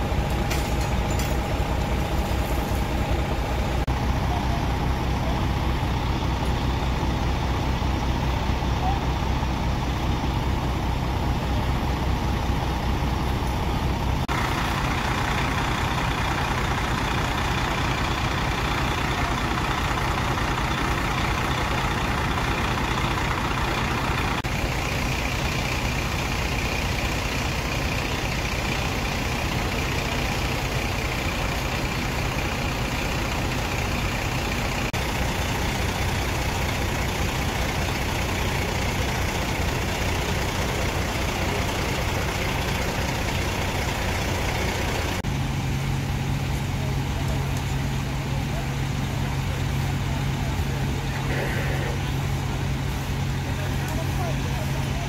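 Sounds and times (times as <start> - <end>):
diesel engines droning: 0.0 - 55.0.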